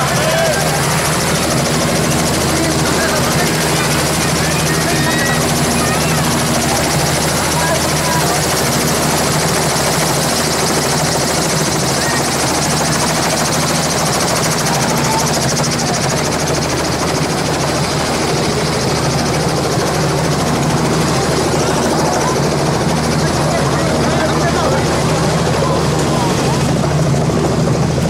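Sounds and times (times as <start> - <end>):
helicopter engine and rotor: 0.0 - 28.0.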